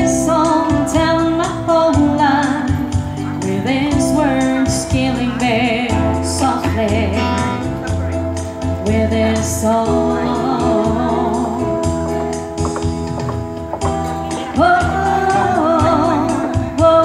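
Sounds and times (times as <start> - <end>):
woman singing a slow ballad: 0.0 - 7.7, 8.6 - 12.9, 13.8 - 17.0
amplified backing music: 0.0 - 17.0.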